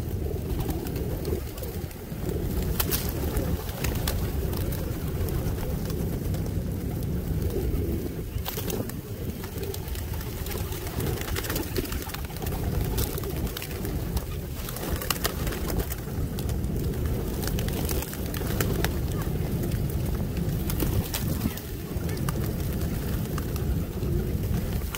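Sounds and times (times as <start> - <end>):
pigeon wings flapping: 0.0 - 24.9
pigeons cooing: 0.0 - 24.9
steady low rumble: 0.0 - 24.9
pecking clicks and rustles: 0.1 - 24.9.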